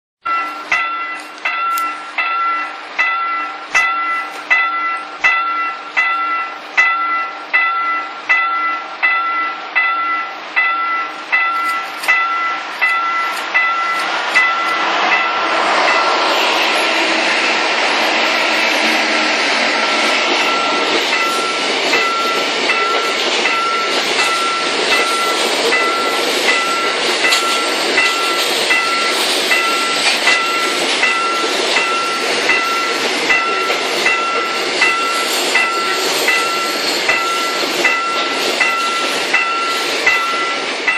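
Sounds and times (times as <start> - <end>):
wheels clacking on rails: 0.2 - 40.9
freight train rumbling past: 0.3 - 40.9.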